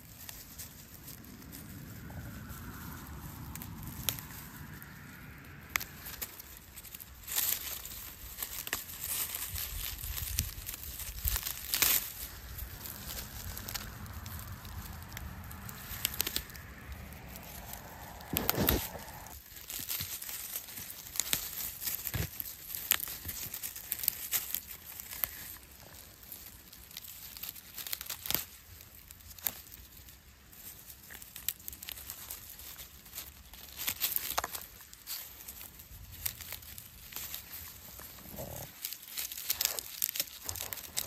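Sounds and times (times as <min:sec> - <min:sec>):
ferns rustling and crinkling: 0:00.0 - 0:41.0.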